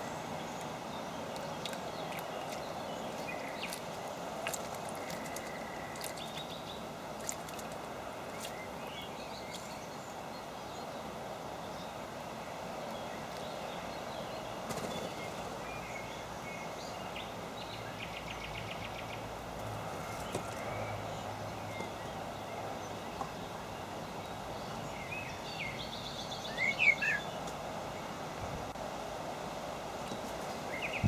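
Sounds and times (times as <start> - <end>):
small birds chirping: 0.0 - 12.0, 12.6 - 28.6, 30.0 - 31.0.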